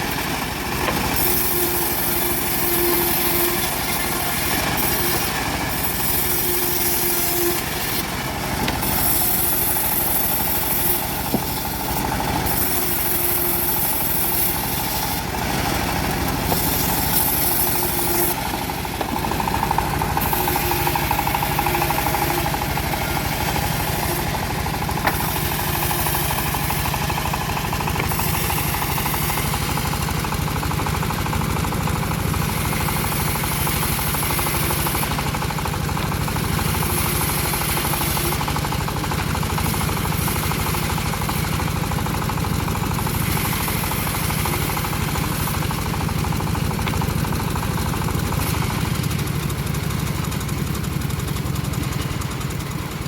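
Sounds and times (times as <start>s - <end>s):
bandsaw mill engine drone: 0.0s - 53.0s.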